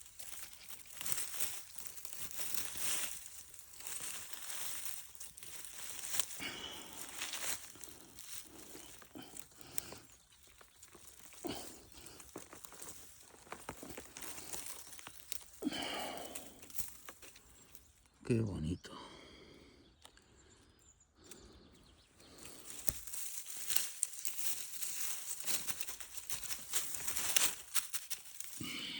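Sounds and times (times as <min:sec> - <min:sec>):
dry leaf litter crackling: 0:00.0 - 0:18.0, 0:22.2 - 0:28.9
rustling and crinkling: 0:00.0 - 0:18.1, 0:22.2 - 0:28.9.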